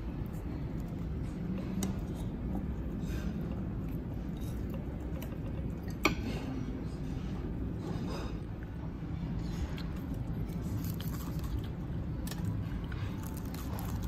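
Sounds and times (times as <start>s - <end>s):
restaurant room noise: 0.0s - 14.0s.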